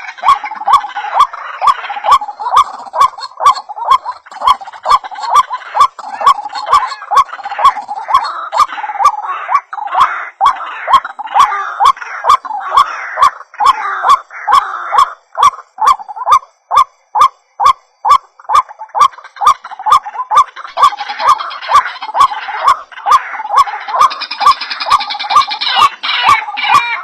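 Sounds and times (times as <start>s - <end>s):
waterhen hoarse calls: 0.0s - 27.0s.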